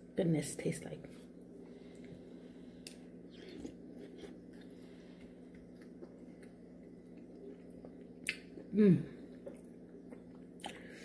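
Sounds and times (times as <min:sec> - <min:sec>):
quiet chewing: 0:01.6 - 0:11.0.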